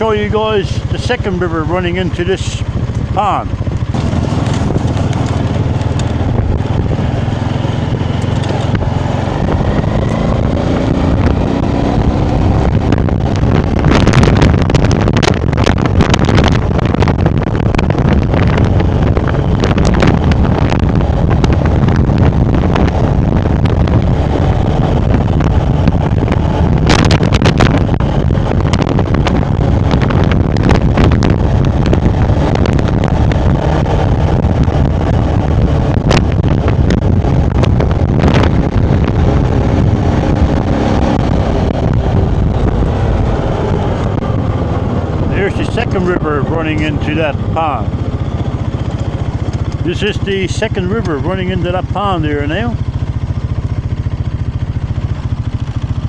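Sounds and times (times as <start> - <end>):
wind buffeting microphone: 0.0 - 56.0
motorbike engine revving: 0.6 - 56.0.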